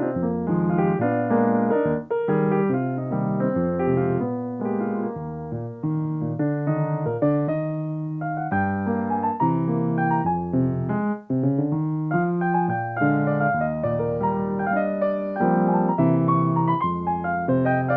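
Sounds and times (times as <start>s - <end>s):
solo piano playing: 0.0s - 17.9s.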